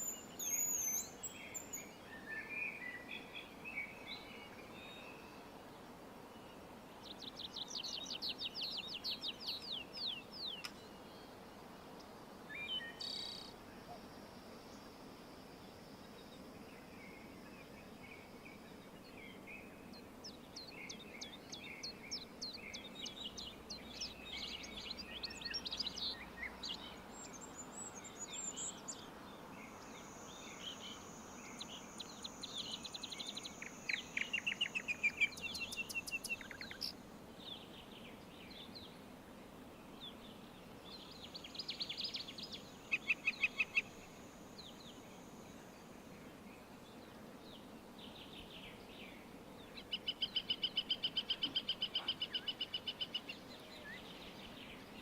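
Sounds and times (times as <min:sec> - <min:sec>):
soft background hiss: 0:00.0 - 0:55.0
songbirds singing: 0:00.0 - 0:55.0.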